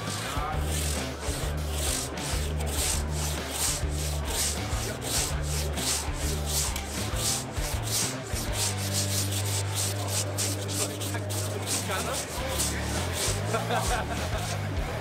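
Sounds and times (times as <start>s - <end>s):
hand saw rasping through log: 0.0s - 14.7s.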